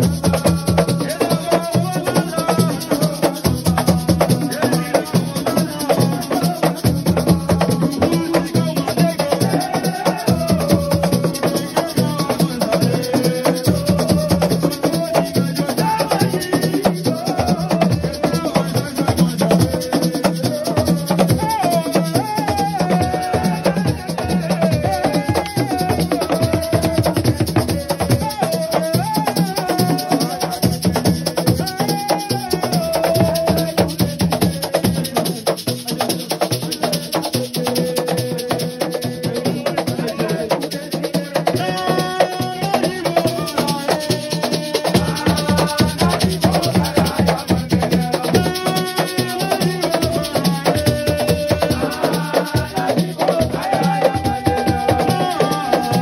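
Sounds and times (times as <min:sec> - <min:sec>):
fast dense drumming: 0:00.0 - 0:56.0
person singing: 0:00.0 - 0:56.0
rattling shakers: 0:00.0 - 0:56.0.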